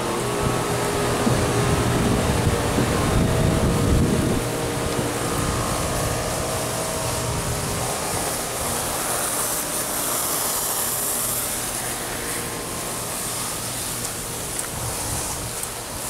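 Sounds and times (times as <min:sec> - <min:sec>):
air conditioner units humming: 0:00.0 - 0:16.0.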